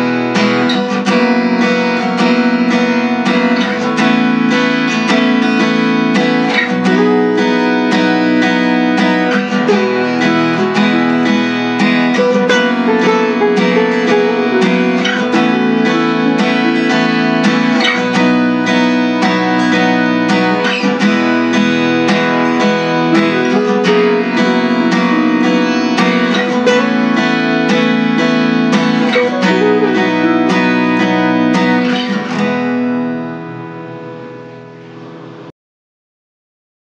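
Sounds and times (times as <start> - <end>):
strummed acoustic guitar music: 0.0 - 35.5.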